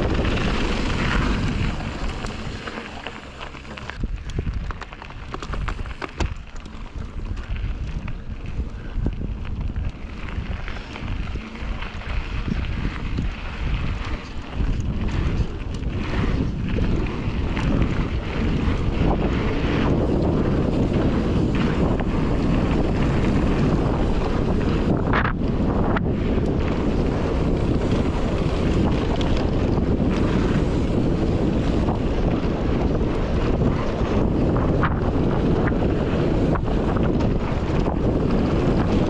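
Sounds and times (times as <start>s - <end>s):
bike clicks and rattles: 0.0s - 39.0s
bike tyres rolling on dirt: 0.0s - 39.0s
wind buffeting microphone: 0.0s - 39.0s.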